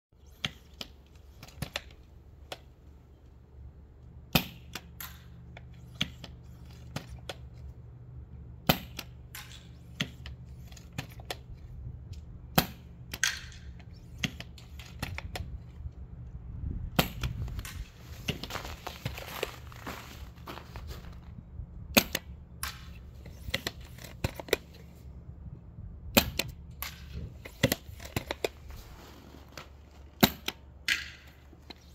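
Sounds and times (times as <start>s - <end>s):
steady low hum: 0.2s - 31.9s.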